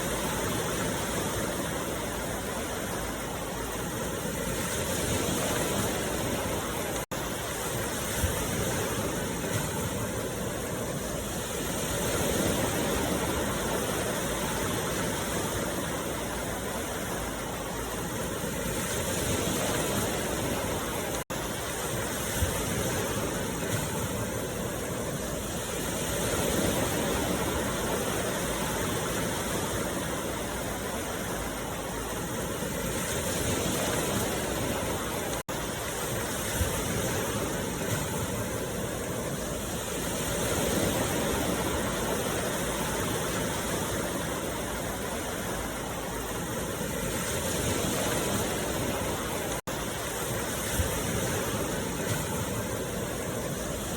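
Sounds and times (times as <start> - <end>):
continuous rushing noise: 0.0 - 53.9.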